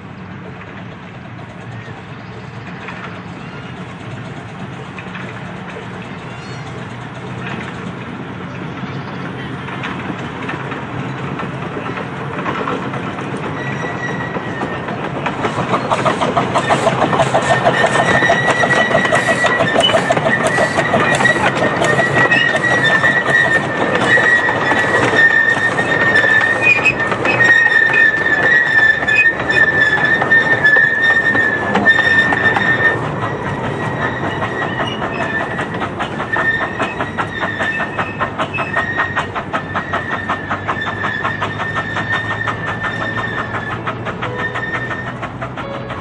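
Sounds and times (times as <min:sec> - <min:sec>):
wheels clicking over rail joints: 0:00.0 - 0:46.0
high wheel squeal: 0:01.6 - 0:46.0.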